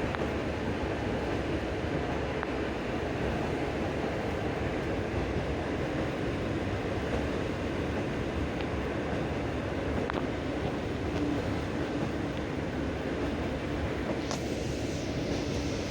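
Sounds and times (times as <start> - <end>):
train wheels rumbling: 0.0 - 15.9.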